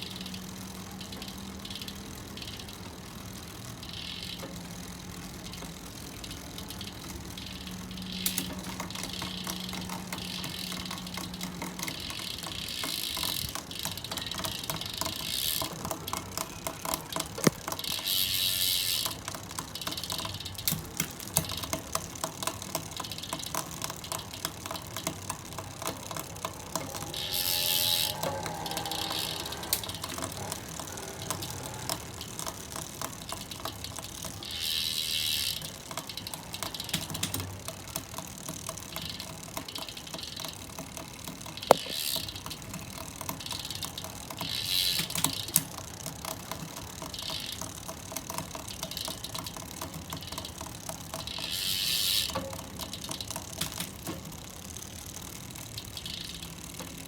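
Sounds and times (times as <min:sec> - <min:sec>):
rapid mechanical clicking: 0:00.0 - 0:57.0.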